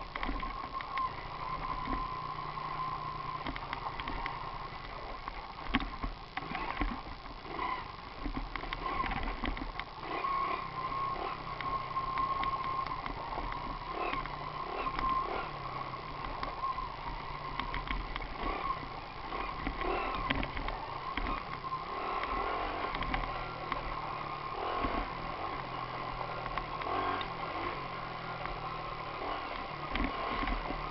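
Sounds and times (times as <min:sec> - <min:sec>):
small motorbike engine running: 0:00.0 - 0:30.9.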